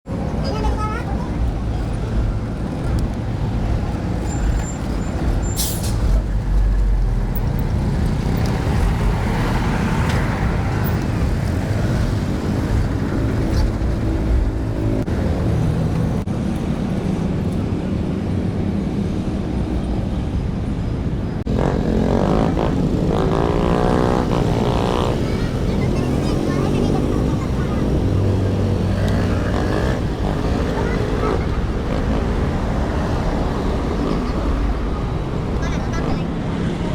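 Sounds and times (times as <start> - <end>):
road traffic noise: 0.0 - 36.9
vehicle engines passing close: 0.1 - 36.9.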